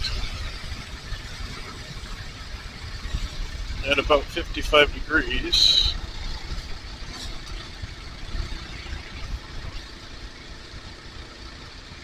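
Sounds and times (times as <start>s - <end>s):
riding wind rush: 0.0s - 11.3s
motorcycle engine running: 0.0s - 12.0s.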